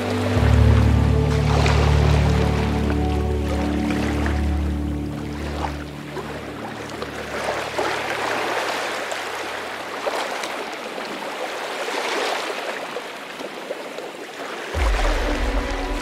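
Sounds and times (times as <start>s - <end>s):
waves washing up a sandy beach: 0.0s - 16.0s.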